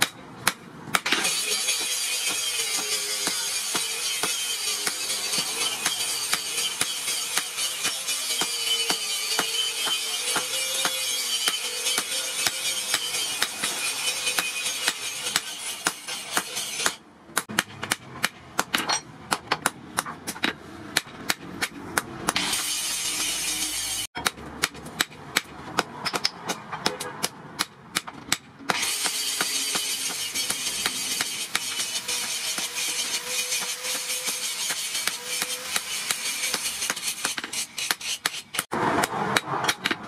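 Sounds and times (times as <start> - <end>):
hammer striking metal on anvil: 0.0 - 40.0.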